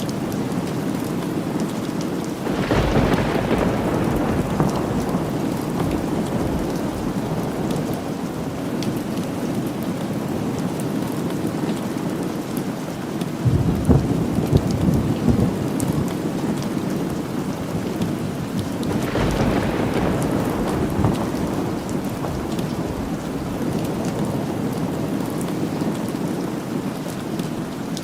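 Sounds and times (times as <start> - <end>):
thunder rumbling: 0.0 - 10.3, 13.4 - 26.9
steady rain falling: 0.0 - 28.0.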